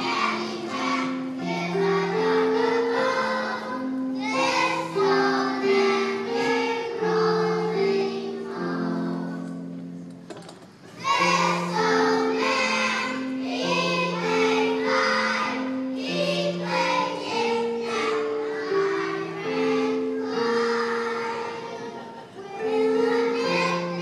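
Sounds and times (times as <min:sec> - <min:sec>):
children singing together: 0:00.0 - 0:10.0, 0:10.9 - 0:24.0
musical accompaniment: 0:00.0 - 0:24.0.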